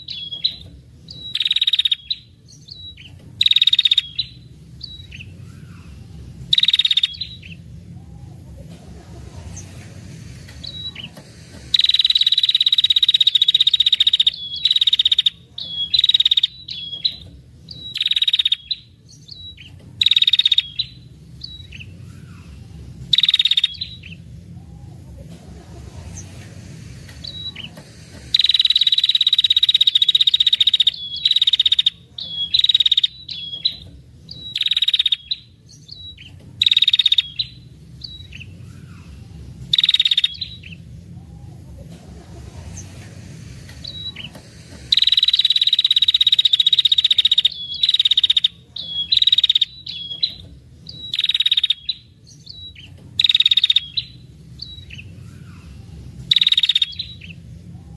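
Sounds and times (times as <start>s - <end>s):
bird buzzy trills: 0.0s - 57.9s
bird chattering: 0.0s - 57.9s.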